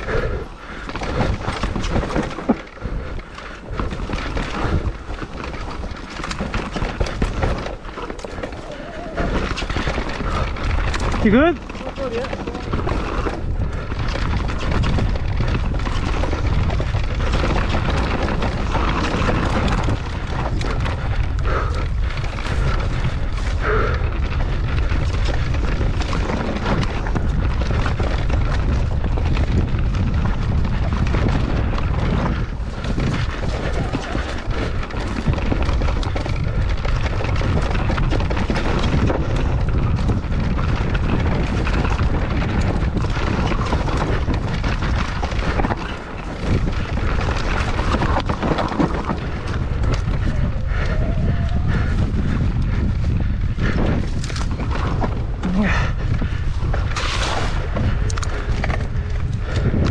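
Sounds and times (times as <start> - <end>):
bike knocks and rattles: 0.0 - 59.9
tyres on trail: 0.0 - 59.9
wind buffeting microphone: 0.0 - 59.9.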